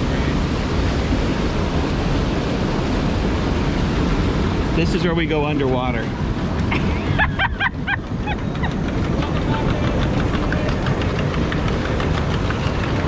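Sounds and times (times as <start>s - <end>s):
rushing churning water: 0.0s - 13.0s.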